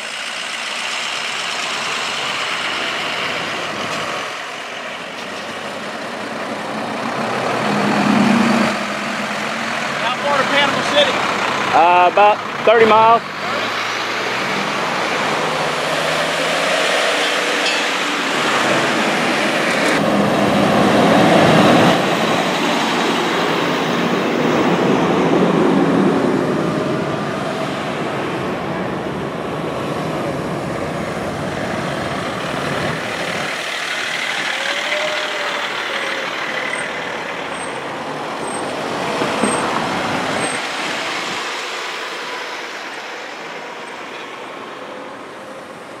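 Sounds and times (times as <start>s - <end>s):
heavy truck engines passing: 0.0s - 46.0s.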